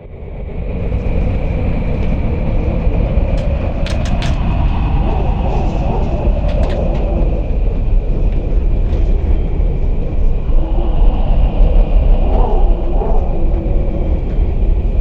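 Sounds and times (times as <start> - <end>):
high wind whistle: 0.0 - 15.0
strong wind rumbling: 0.0 - 15.0.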